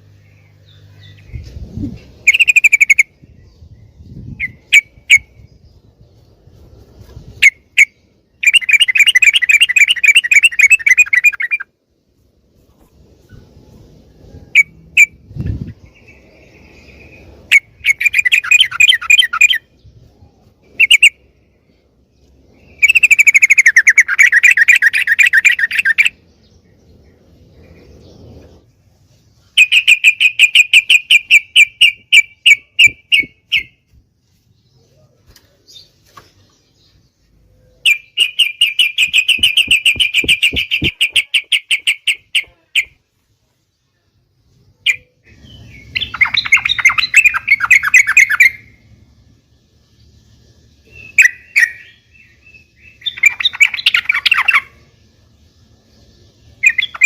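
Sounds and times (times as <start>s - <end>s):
bulbul chattering song: 0.0s - 6.5s, 7.1s - 34.0s, 35.0s - 43.2s, 43.9s - 57.0s.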